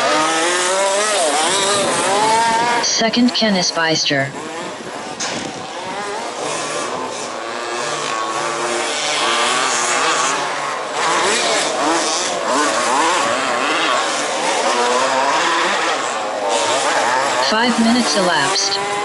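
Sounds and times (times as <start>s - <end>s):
rc car engines revving: 0.0s - 3.5s, 4.3s - 19.0s.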